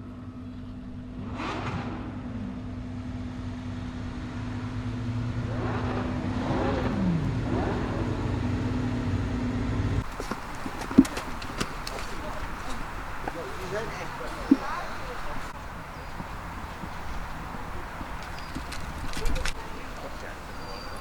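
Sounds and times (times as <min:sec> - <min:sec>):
car engine revving: 0:00.1 - 0:21.0.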